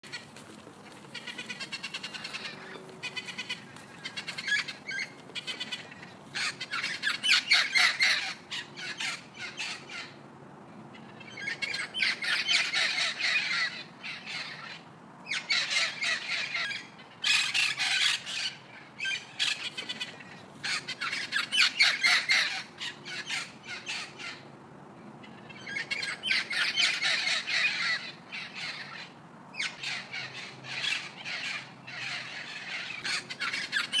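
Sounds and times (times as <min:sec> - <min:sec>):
birds calling harshly: 0:00.0 - 0:34.0.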